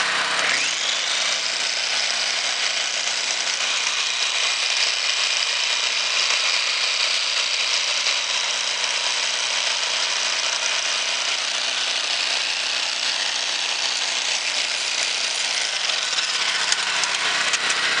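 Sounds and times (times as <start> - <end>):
portable generator running: 0.0 - 18.0.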